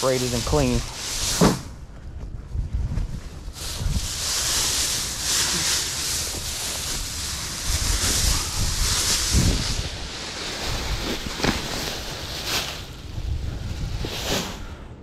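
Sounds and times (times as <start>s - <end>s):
dry grass rustling: 0.0s - 14.7s
wind rumbling on microphone: 0.4s - 15.0s.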